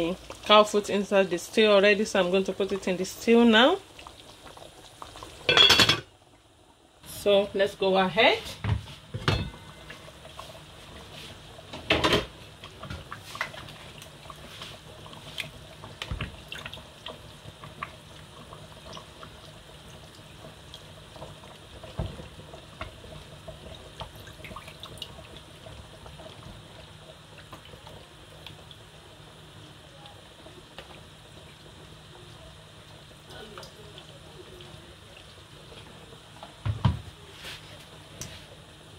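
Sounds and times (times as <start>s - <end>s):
stew bubbling: 1.7s - 5.5s, 9.0s - 38.9s.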